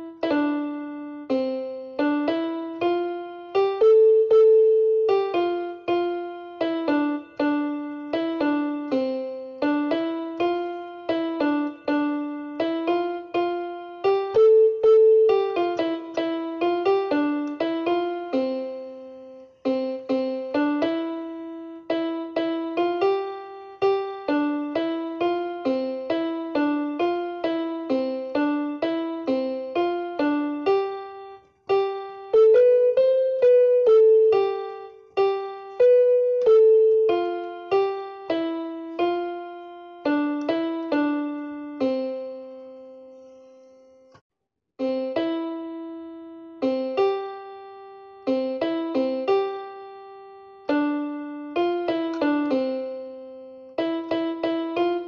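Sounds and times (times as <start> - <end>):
slow piano melody: 0.0 - 44.2, 44.8 - 55.0.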